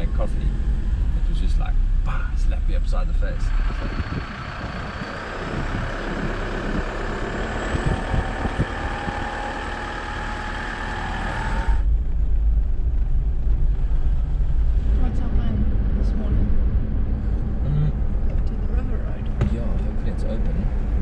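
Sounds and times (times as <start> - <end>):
car engine and tyre noise: 0.0 - 21.0
heavy low rumble: 0.0 - 21.0.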